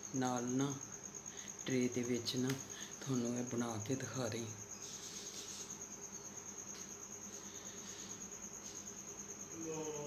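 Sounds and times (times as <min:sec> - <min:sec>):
cricket trilling: 0:00.0 - 0:10.0.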